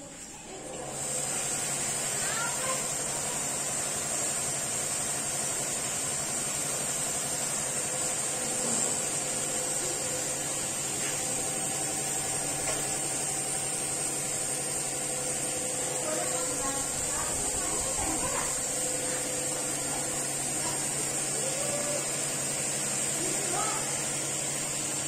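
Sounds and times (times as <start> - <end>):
ceiling fan whirring: 0.0 - 25.0.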